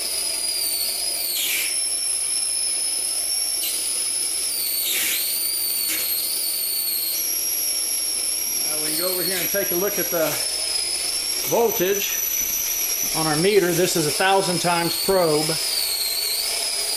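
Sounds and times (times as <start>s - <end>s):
high-pitched corona discharge whine: 0.0s - 16.9s.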